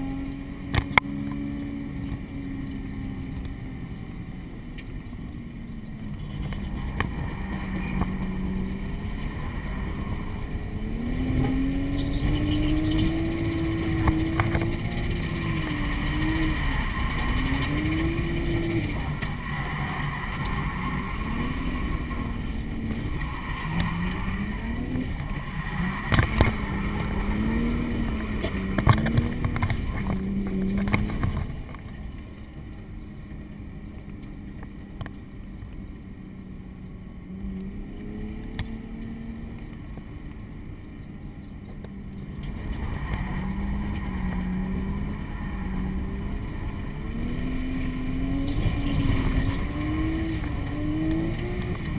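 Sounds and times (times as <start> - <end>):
car engine revving: 0.0 - 32.7, 41.0 - 51.9.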